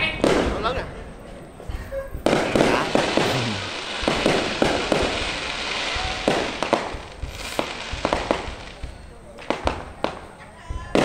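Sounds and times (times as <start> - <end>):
fireworks bangs: 0.0 - 1.1, 1.7 - 11.0
fireworks crackling: 2.1 - 11.0.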